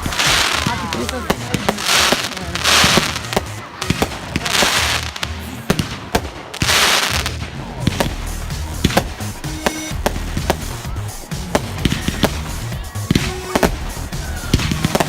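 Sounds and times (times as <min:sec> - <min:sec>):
background music: 0:00.0 - 0:15.0
fireworks bangs: 0:00.0 - 0:15.0
fireworks crackling and fizzing: 0:00.0 - 0:15.0.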